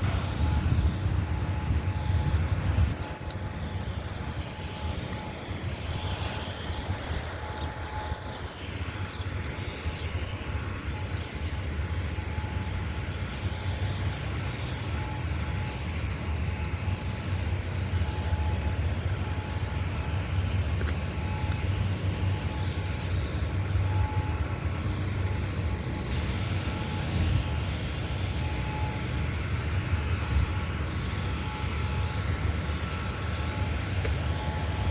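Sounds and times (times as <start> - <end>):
distant rotating warning siren: 0.0 - 34.9.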